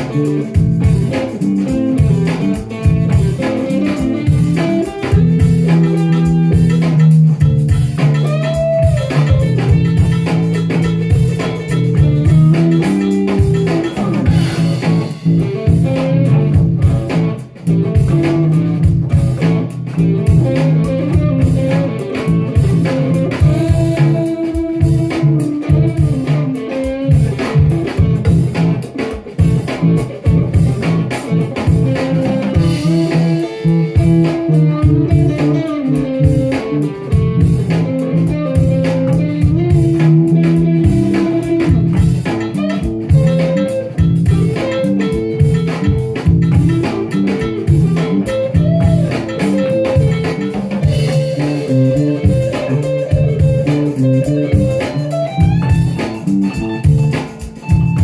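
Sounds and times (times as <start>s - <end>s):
bass guitar line: 0.0s - 58.0s
electric guitar playing blues: 0.0s - 58.0s.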